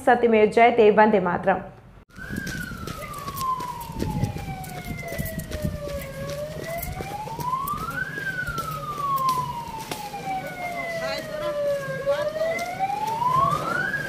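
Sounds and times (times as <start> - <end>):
ambulance siren wailing: 2.1 - 14.0.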